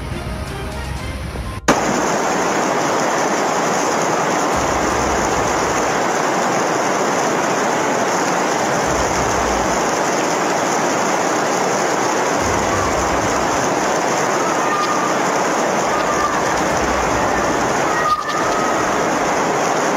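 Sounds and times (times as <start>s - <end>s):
heavy rain on flooded street: 1.7s - 19.9s.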